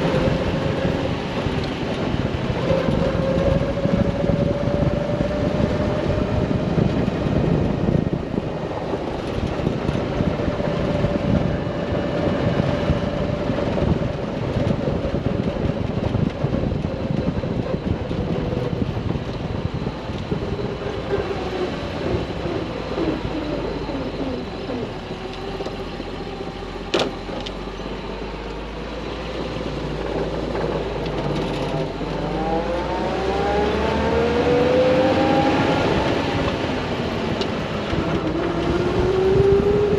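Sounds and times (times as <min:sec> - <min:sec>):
car engine while driving: 0:00.0 - 0:39.9.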